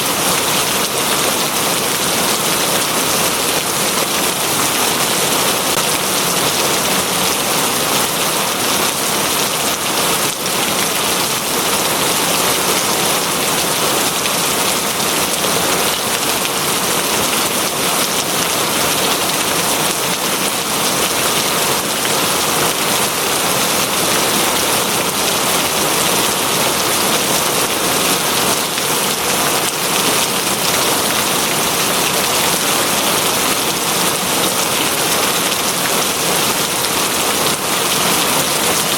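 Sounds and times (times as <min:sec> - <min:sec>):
dense rain falling: 0:00.0 - 0:38.9.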